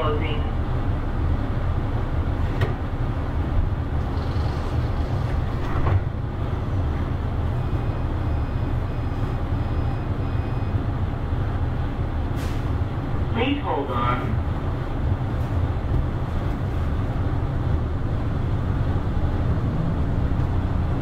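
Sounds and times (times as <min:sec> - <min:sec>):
train tyres rumbling: 0:00.5 - 0:13.4, 0:14.2 - 0:21.0.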